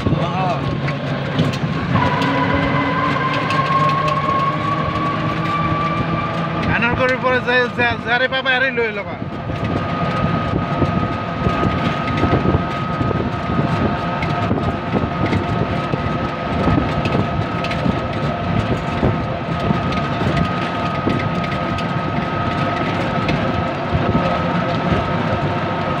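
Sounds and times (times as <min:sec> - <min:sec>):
vehicle road rumble: 0:00.0 - 0:26.0.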